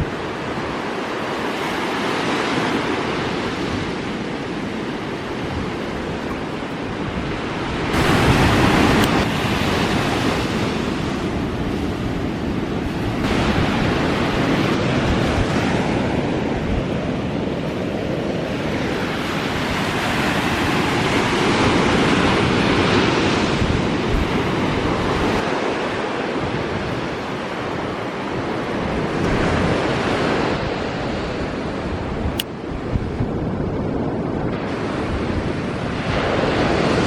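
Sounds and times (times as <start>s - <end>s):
ocean surf breaking: 0.0s - 37.0s
wind rumbling on microphone: 0.0s - 37.0s.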